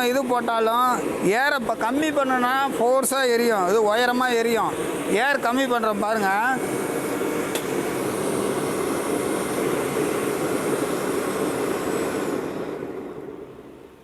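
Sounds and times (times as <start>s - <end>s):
blower fan and fire roaring: 0.0s - 14.0s
faint high whine: 0.0s - 14.0s.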